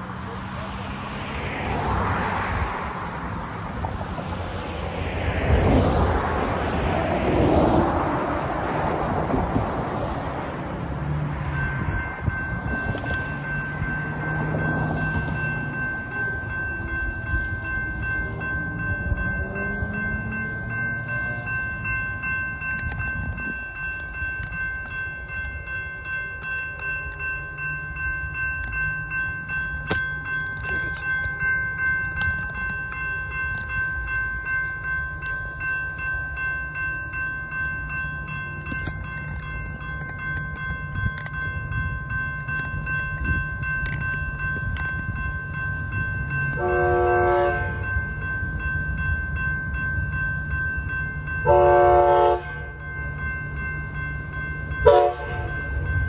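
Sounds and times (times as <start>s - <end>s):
passing road traffic: 0.0s - 56.0s
railroad crossing warning bell: 0.0s - 56.0s.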